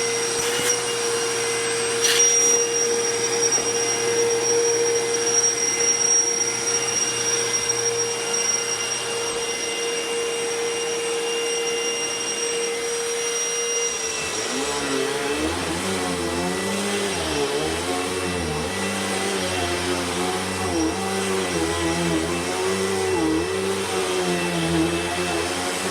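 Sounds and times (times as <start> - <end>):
vacuum cleaner motor whine: 0.0 - 25.9.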